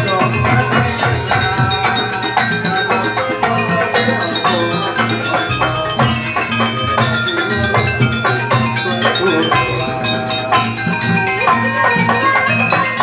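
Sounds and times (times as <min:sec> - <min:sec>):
drum beats: 0:00.0 - 0:13.0
metallophones ringing: 0:00.0 - 0:13.0.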